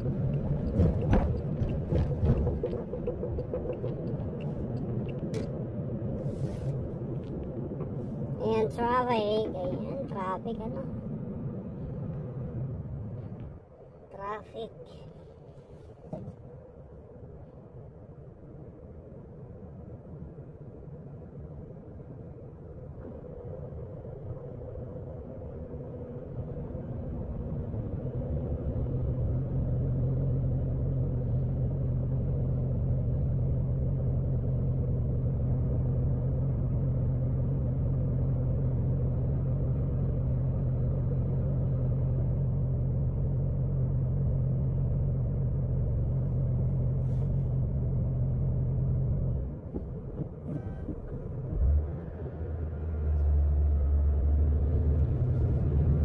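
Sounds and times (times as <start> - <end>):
car engine rumble: 0.0 - 56.0
deeper engine rumble: 0.0 - 56.0.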